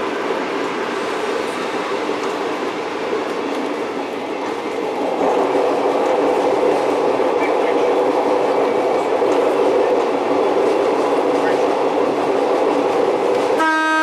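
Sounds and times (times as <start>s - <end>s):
rail motor wheels rumbling on rail: 0.0s - 14.0s.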